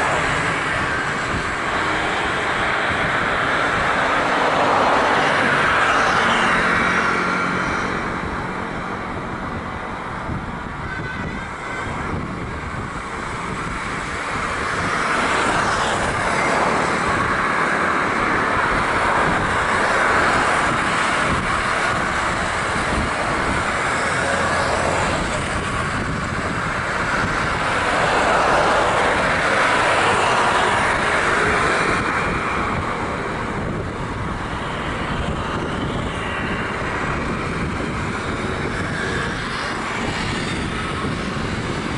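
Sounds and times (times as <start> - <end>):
jet engines rushing: 0.0 - 41.9
wind buffeting microphone: 0.0 - 41.9.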